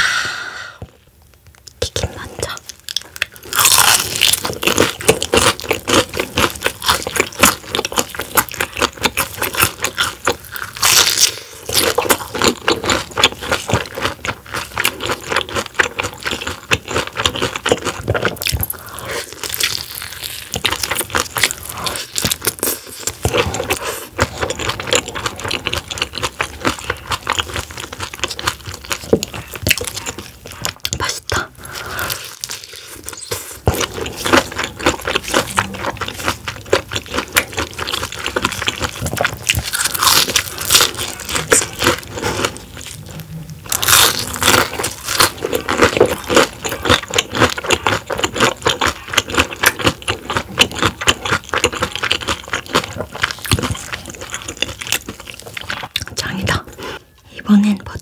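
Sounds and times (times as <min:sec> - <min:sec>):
crunchy chewing of fried food: 0:01.5 - 0:57.2.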